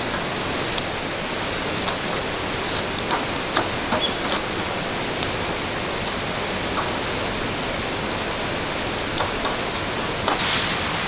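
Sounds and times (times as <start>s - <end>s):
sharp pops and snaps: 0.0s - 10.7s
wood fire crackling: 0.0s - 11.0s.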